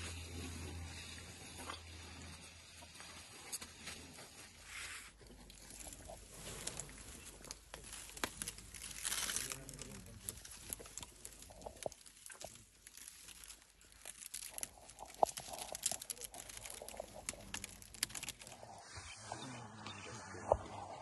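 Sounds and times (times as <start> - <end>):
elephant trunk crackling and rustling: 0.0 - 19.8.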